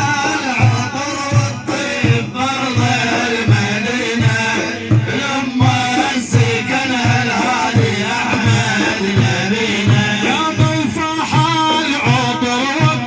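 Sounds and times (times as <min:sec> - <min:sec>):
devotional music with drum beat: 0:00.0 - 0:13.0.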